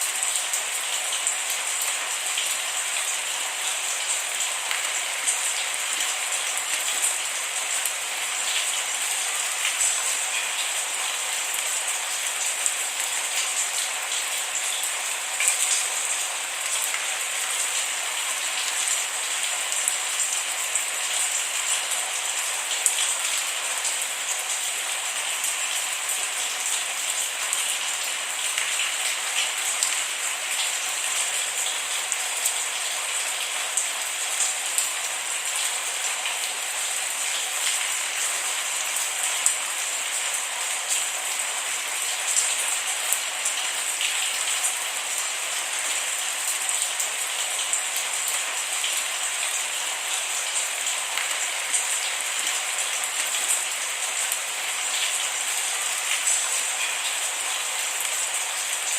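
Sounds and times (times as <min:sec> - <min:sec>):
steady rain on a surface: 0:00.0 - 0:58.9.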